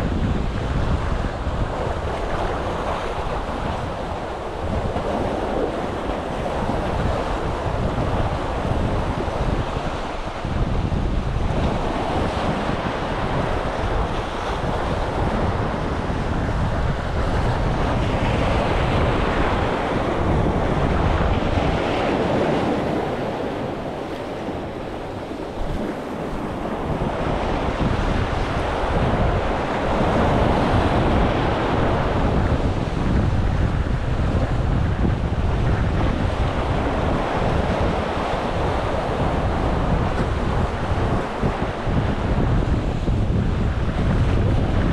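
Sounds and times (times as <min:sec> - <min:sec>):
waves breaking against breakwater: 0:00.0 - 0:44.9
wind rumbling on microphone: 0:00.0 - 0:44.9.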